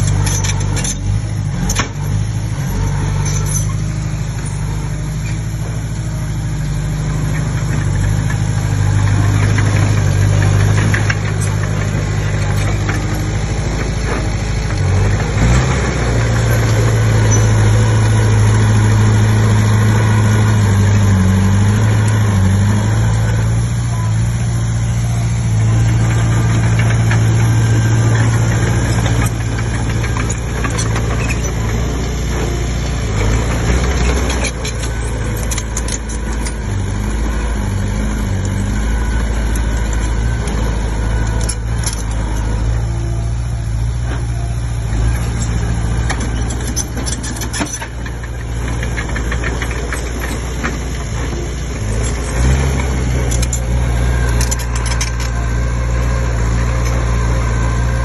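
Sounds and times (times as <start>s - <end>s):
metallic clanks and rattles: 0.0s - 2.2s, 2.8s - 5.8s, 7.1s - 23.4s, 24.9s - 58.0s
bulldozer diesel engine running: 0.0s - 58.0s.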